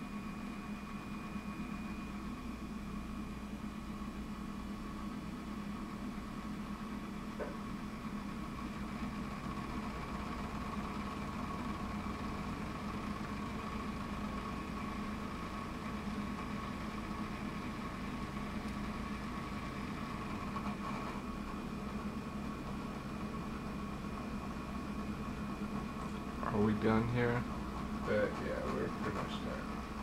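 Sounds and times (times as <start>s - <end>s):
small fan motors humming: 0.0s - 30.0s.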